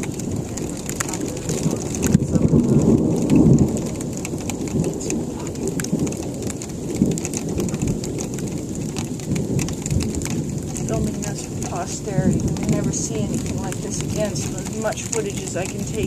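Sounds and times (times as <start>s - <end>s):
freezing rain ticking: 0.0s - 16.0s
thunder rumbling: 0.0s - 16.0s.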